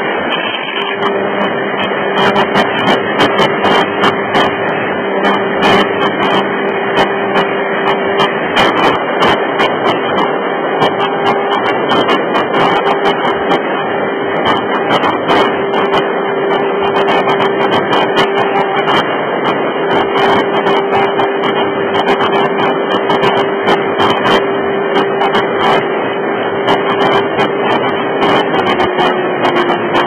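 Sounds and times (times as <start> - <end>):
wind rush: 0.0 - 30.0
crackling clicks: 0.2 - 13.8, 14.4 - 25.8.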